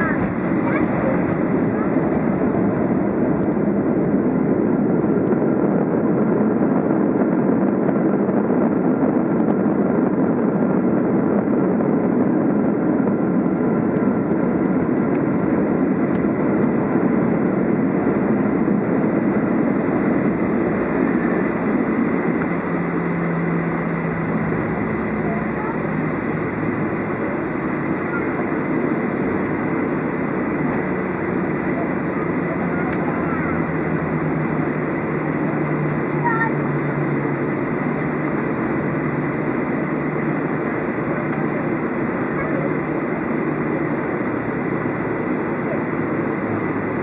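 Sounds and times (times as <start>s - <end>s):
airplane engine and airflow noise: 0.0s - 47.0s
low steady hum: 0.0s - 47.0s.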